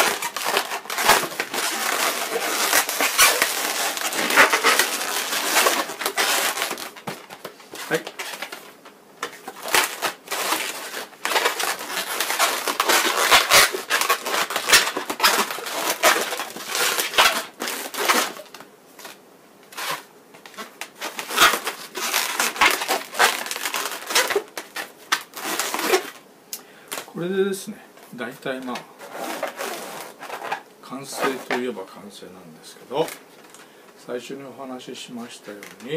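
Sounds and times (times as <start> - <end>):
balloons squeaking and rubbing: 0.0 - 26.2, 28.5 - 31.6.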